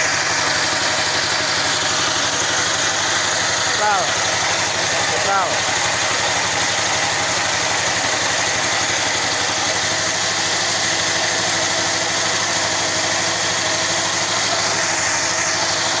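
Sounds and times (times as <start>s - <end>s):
small engine running steadily: 0.0s - 16.0s.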